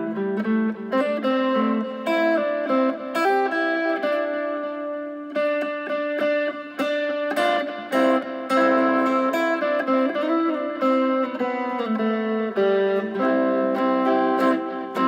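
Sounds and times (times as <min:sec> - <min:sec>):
electric guitar picked melody: 0:00.0 - 0:15.0.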